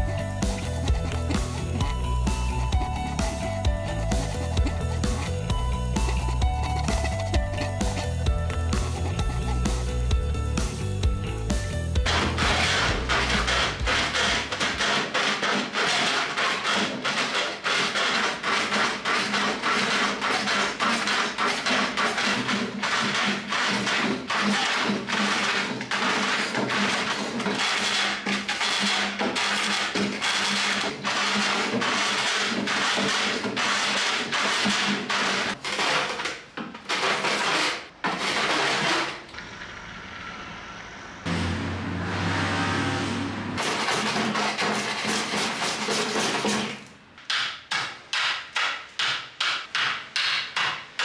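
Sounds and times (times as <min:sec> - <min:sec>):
hand plane shaving wood: 0:00.0 - 0:10.8, 0:11.5 - 0:36.1, 0:36.9 - 0:39.2, 0:43.6 - 0:46.7.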